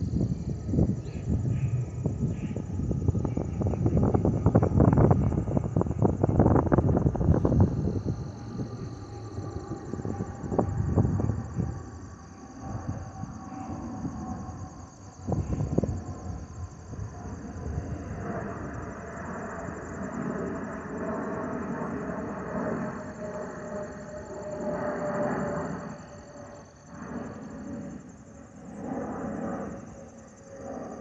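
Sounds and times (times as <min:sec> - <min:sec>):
wind buffeting microphone: 0:00.0 - 0:29.9
faint jet whine: 0:00.0 - 0:31.0
insects chirring: 0:00.0 - 0:31.0
jet engine rumble overhead: 0:00.0 - 0:31.0.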